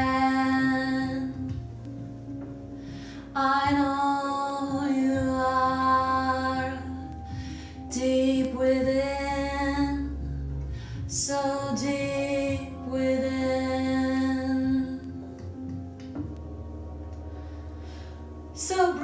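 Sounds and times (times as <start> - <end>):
steady low drone: 0.0 - 19.0.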